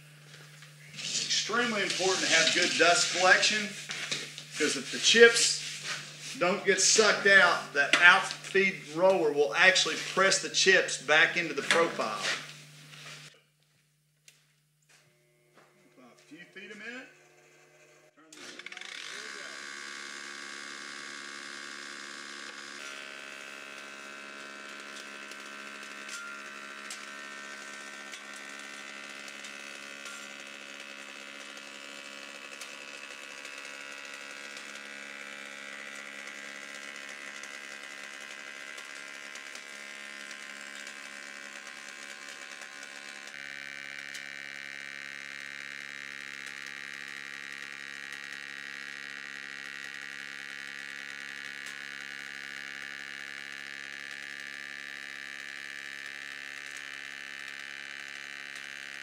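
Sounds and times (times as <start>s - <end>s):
dust collector running: 0.0s - 13.4s, 14.9s - 59.0s
planer-molder cutting wood: 0.0s - 13.4s, 15.0s - 59.0s.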